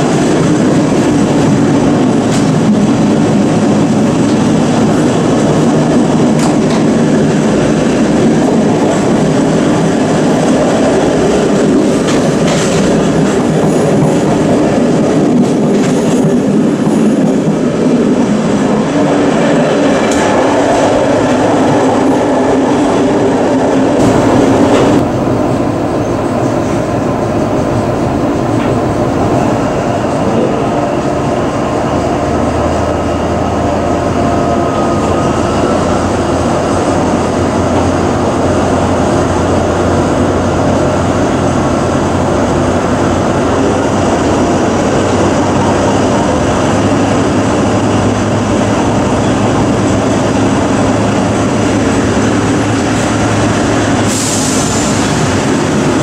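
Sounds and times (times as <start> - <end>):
locomotive engine running: 0.0 - 56.0.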